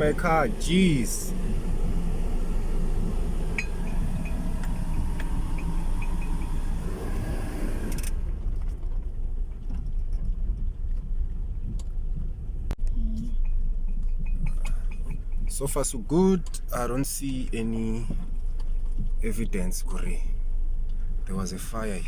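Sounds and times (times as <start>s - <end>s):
engine and tyres rumbling: 0.0s - 22.0s.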